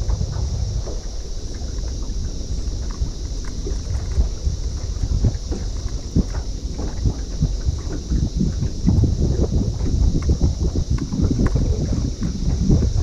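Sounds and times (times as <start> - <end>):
steady high hiss: 0.0 - 13.0
waves slapping against hull: 0.0 - 13.0
wind buffeting microphone: 0.0 - 13.0.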